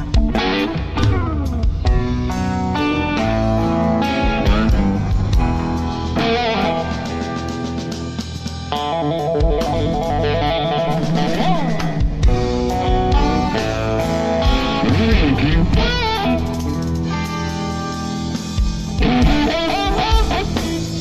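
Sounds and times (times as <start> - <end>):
bass guitar: 0.0 - 21.0
drums: 0.0 - 21.0
electric guitar lead: 0.0 - 21.0.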